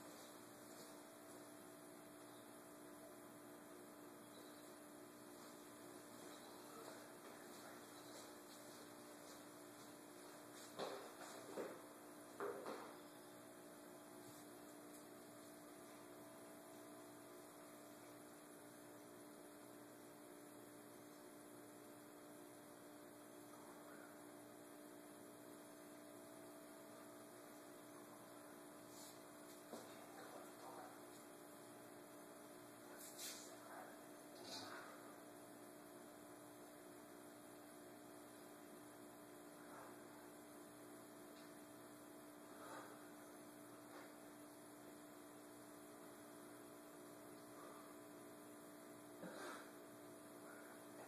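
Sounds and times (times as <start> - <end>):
faint electrical hum: 0.0 - 51.0.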